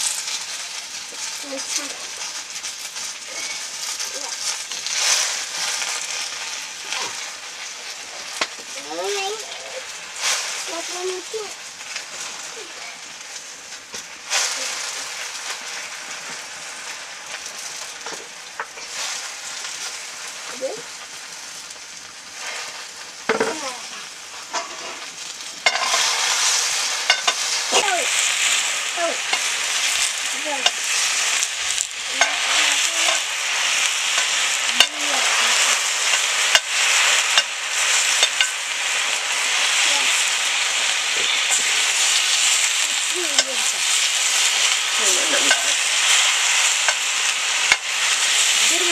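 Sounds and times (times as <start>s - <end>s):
greens sizzling in hot oil: 0.0s - 48.9s.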